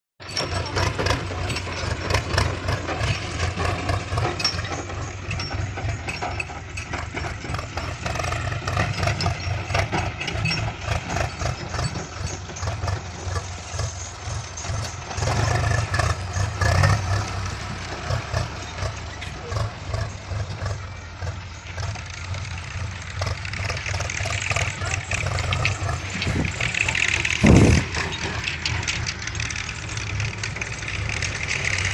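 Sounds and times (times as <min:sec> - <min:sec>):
heavy diesel engine humming: 0:00.2 - 0:31.9
clattering ticks: 0:00.3 - 0:31.9.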